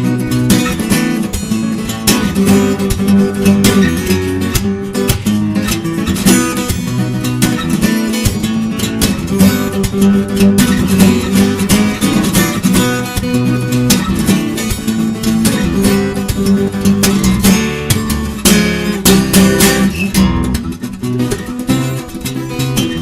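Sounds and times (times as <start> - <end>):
fingerstyle acoustic guitar: 0.0 - 23.0.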